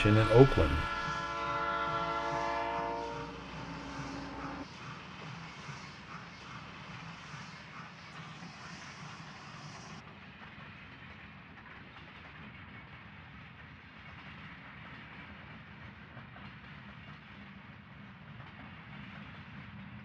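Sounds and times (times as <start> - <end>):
diesel train running by: 0.0 - 20.0.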